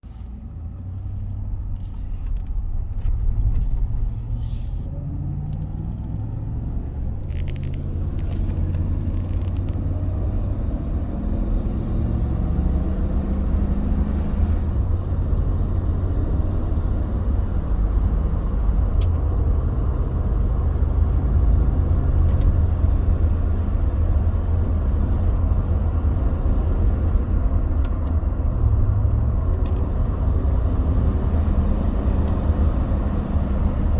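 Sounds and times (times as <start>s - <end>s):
engine low rumble: 0.0s - 33.9s.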